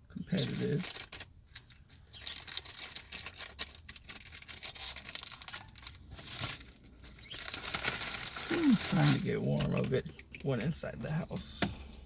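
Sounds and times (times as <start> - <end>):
cards and packaging rustling: 0.2 - 11.6.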